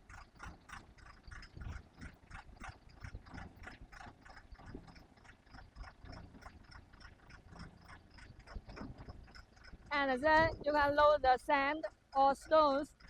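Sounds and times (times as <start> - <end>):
concrete pump engine rumble: 0.0 - 13.0
steady mechanical clicking: 0.0 - 13.0.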